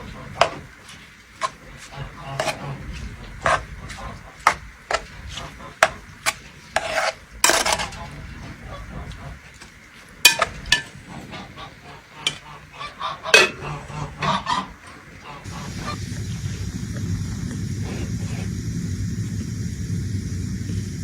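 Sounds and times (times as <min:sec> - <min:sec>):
utensil scraping a cooking pot: 0:00.0 - 0:09.6, 0:10.2 - 0:18.6.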